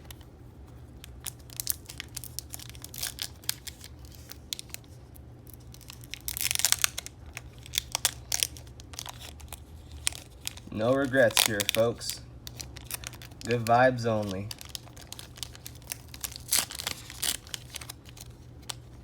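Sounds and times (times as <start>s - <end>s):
foil wrapper tearing and crinkling: 1.0s - 19.0s.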